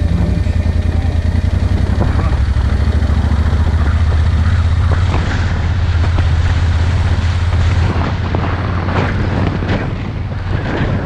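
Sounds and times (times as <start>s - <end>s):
vehicle engine running: 0.0s - 11.0s
wind rumble on microphone: 0.0s - 11.0s.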